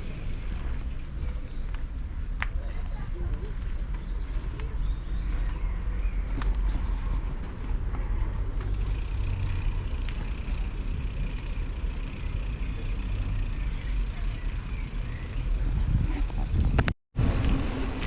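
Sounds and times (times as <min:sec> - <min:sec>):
wind and tyre rumble: 0:00.0 - 0:18.0.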